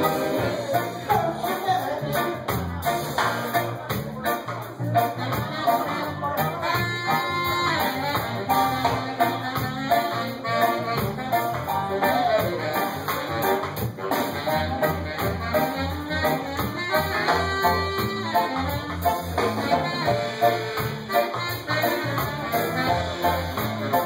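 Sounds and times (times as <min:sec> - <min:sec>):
live band playing: 0:00.0 - 0:24.0
saxophone: 0:00.0 - 0:24.0.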